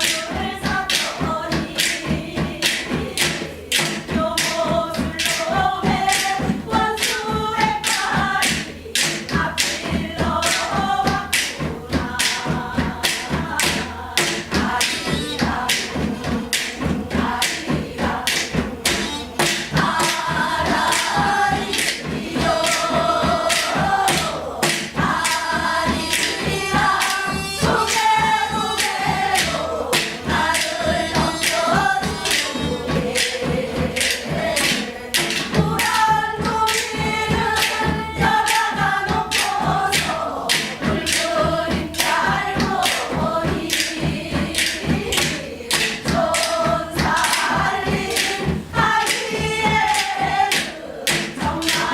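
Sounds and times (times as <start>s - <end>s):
drum strokes: 0.0s - 51.9s.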